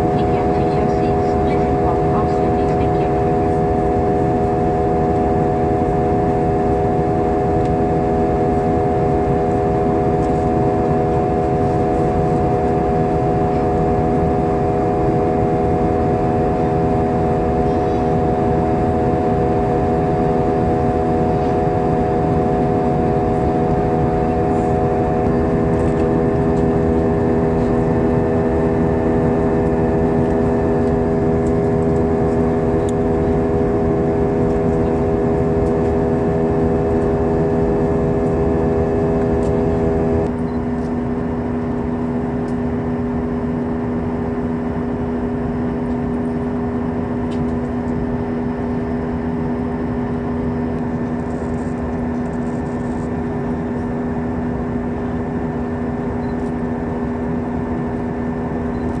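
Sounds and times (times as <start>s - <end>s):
turbofan engine hum: 0.0s - 59.0s.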